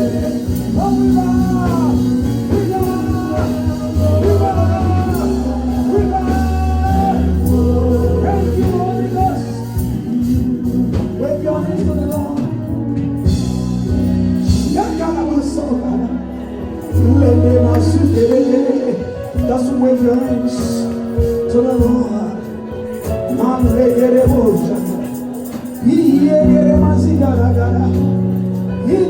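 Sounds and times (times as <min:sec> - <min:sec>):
person singing: 0:00.0 - 0:13.4, 0:14.5 - 0:29.0
live band playing: 0:00.0 - 0:29.0.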